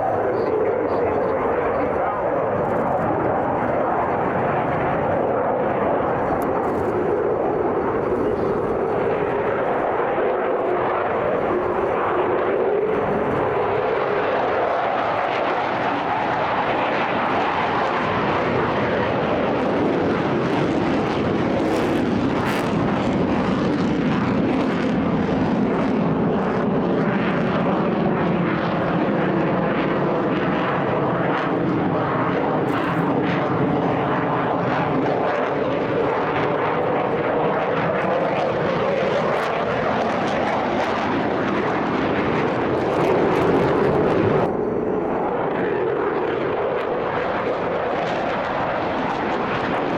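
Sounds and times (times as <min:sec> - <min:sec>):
fighter jet roar: 0:00.0 - 0:49.9.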